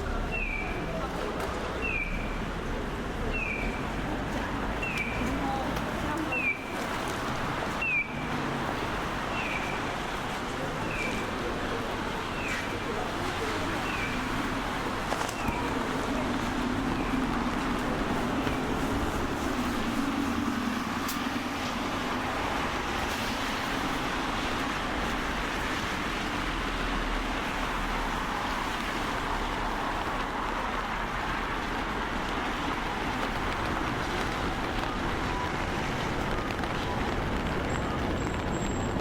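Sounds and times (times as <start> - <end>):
road traffic hiss: 0.0 - 39.0.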